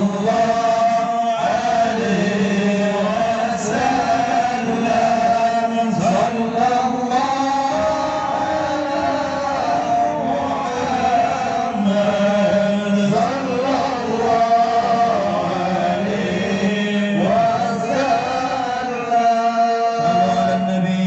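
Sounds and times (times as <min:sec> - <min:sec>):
man chanting: 0:00.0 - 0:21.0.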